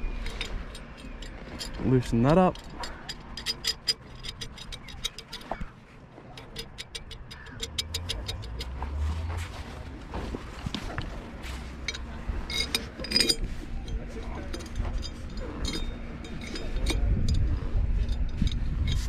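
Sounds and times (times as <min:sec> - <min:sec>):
low rumble: 0:00.0 - 0:19.0
metal clamp clinking: 0:00.1 - 0:09.4, 0:11.8 - 0:19.0.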